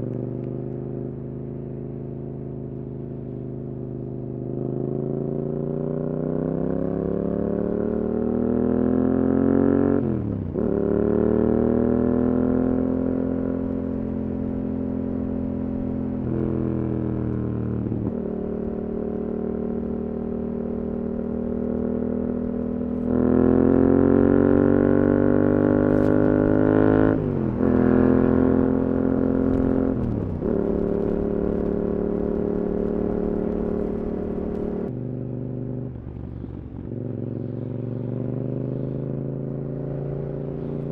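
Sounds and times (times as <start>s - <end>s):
motorcycle engine revving: 4.0s - 40.9s.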